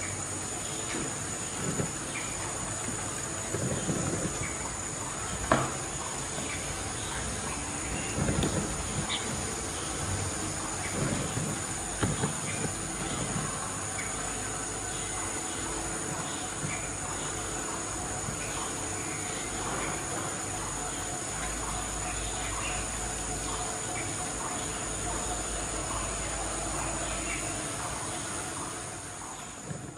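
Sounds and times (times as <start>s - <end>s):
insect chorus: 0.0s - 29.9s.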